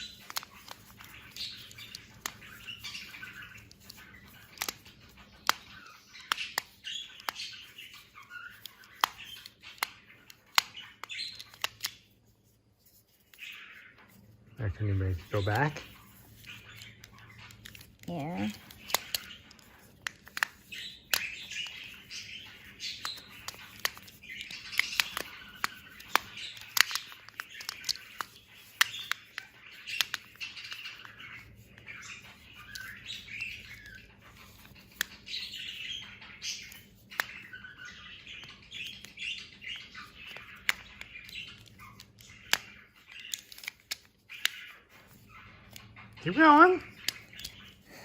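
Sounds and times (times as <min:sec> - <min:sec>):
magnetic cube pieces clicking: 0:00.0 - 0:12.2, 0:15.6 - 0:35.8, 0:36.6 - 0:46.0, 0:47.0 - 0:47.9.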